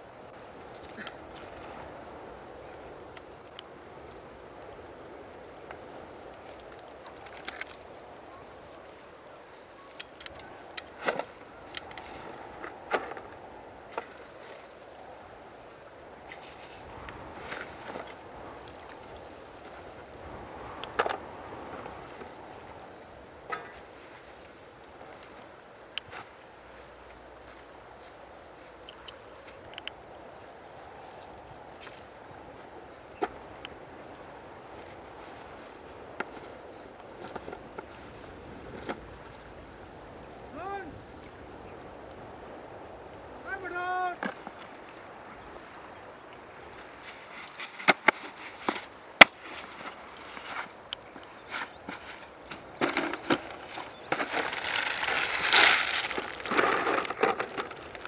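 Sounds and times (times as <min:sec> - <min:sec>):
insect chirping: 0:00.0 - 0:47.6, 0:50.0 - 0:58.0
outdoor background noise: 0:00.0 - 0:58.0.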